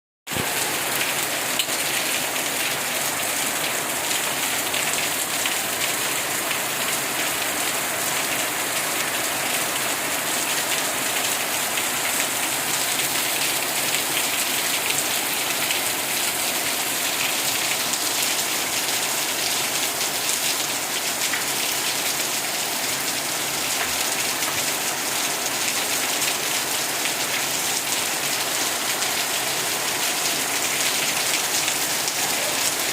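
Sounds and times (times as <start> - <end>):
rain pattering on a surface: 0.3 - 32.9.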